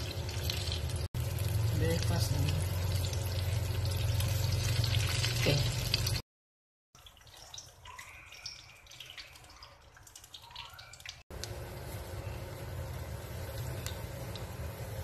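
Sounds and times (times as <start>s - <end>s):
food deep-frying in hot oil: 0.0s - 6.2s, 7.0s - 15.0s.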